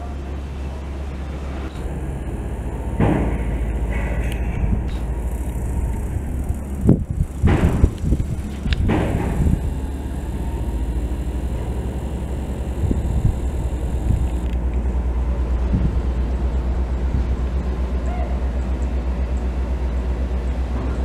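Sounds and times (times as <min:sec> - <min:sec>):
diesel engine idling: 0:00.4 - 0:20.4.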